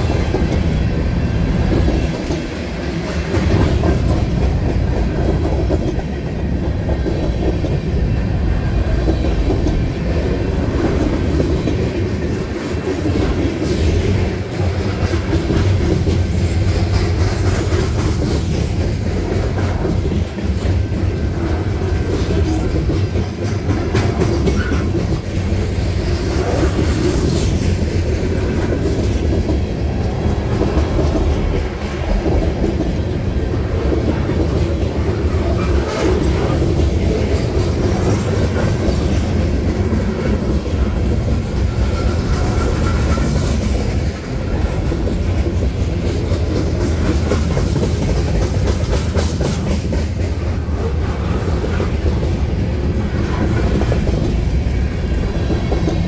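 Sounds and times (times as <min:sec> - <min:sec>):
wheels clicking over rail joints: 0:08.8 - 0:56.0.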